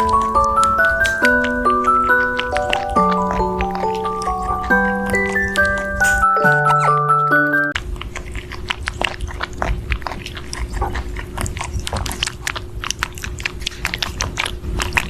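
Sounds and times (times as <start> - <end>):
rabbit chewing strawberries: 0.0 - 15.0.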